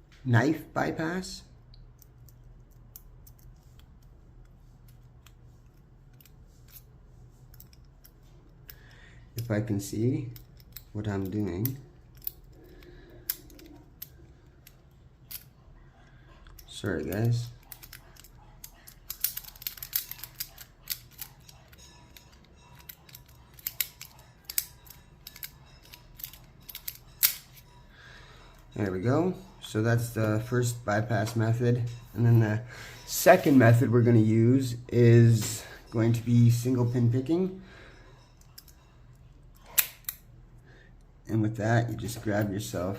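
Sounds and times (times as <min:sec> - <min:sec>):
faint metal clicks and scrapes: 0:01.7 - 0:42.9.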